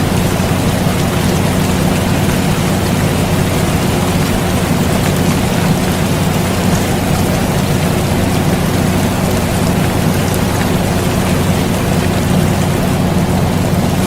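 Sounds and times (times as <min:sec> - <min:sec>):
air conditioner humming: 0:00.0 - 0:14.0
steady rain falling: 0:00.0 - 0:14.0.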